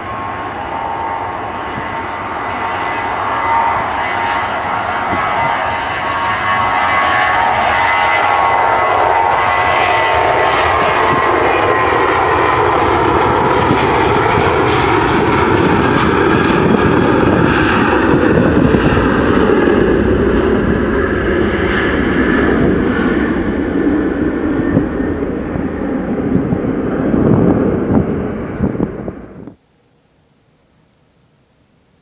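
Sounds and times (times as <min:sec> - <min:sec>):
jet engines roaring at takeoff: 0:00.0 - 0:29.6
jet engine whine: 0:00.0 - 0:29.8.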